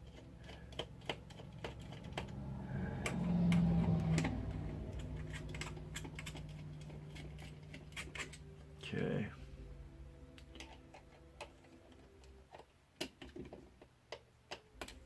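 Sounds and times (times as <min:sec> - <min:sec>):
small screws and plastic clicking: 0:00.0 - 0:02.4, 0:03.0 - 0:08.6, 0:10.3 - 0:15.0
low steady hum: 0:00.0 - 0:13.8.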